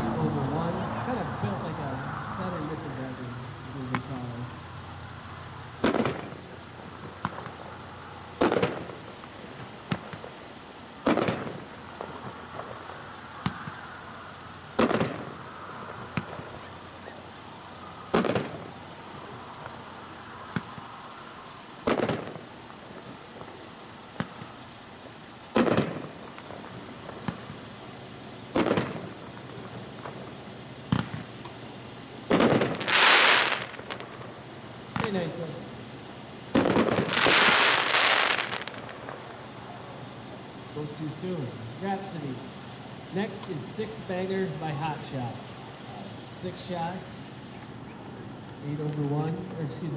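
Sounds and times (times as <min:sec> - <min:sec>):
firework shells booming: 0:00.0 - 0:49.9
firework pops and crackle: 0:05.8 - 0:47.9.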